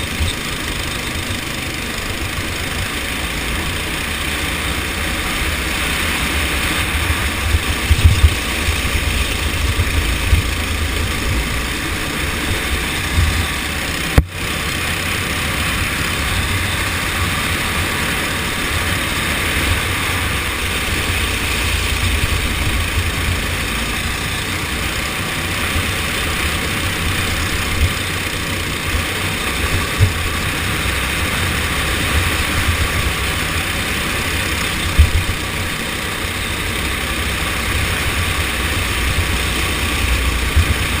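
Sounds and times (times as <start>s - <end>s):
kart engine running: 0.0s - 41.0s.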